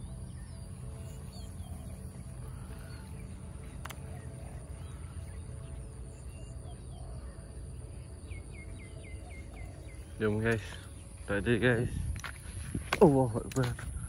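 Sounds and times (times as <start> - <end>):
bird chirps: 0.0 - 11.9.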